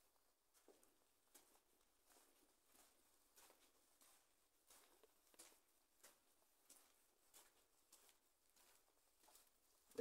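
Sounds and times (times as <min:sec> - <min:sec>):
faint footsteps: 0:00.0 - 0:10.0.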